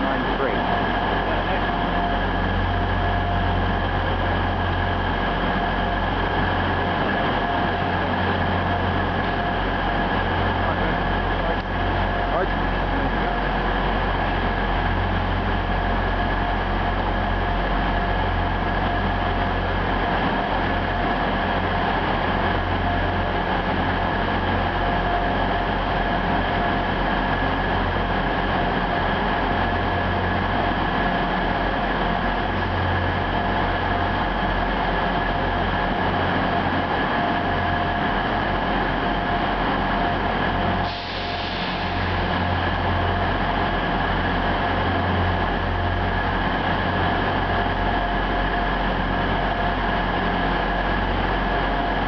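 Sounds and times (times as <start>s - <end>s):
diesel train engines droning: 0.0s - 52.0s.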